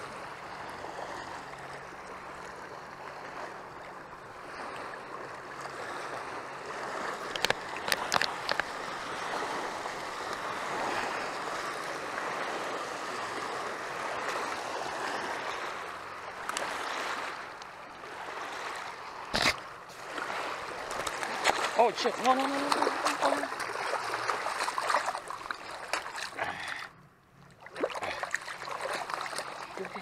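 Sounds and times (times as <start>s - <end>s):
waves lapping on pebbly shore: 4.3s - 26.5s, 27.6s - 30.0s.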